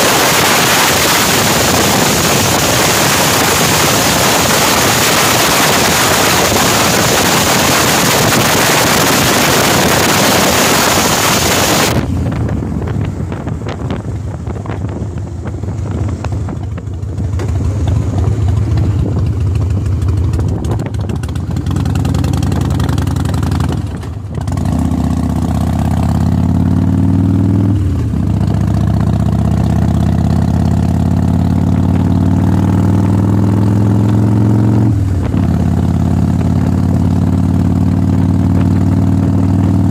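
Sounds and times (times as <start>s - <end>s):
wind rushing over microphone: 0.0s - 28.3s, 31.7s - 39.9s
motorcycle engine accelerating: 0.0s - 39.9s.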